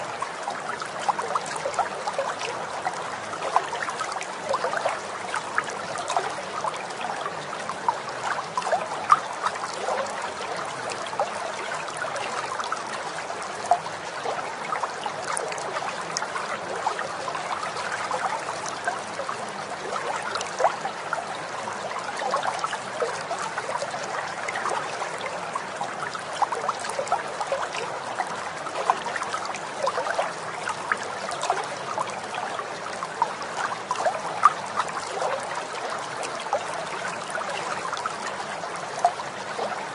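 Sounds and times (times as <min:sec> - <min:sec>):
babbling water: 0:00.0 - 0:39.9
water splashes and drips: 0:00.0 - 0:39.9.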